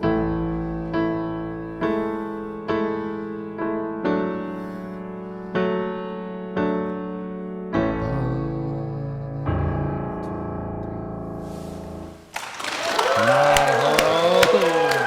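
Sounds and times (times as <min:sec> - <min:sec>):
slow piano chords: 0:00.0 - 0:12.3.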